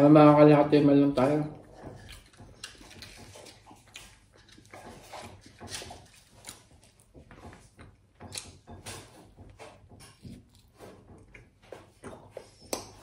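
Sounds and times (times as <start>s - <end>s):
close chewing with wet clicks: 1.1s - 9.1s, 10.1s - 13.0s.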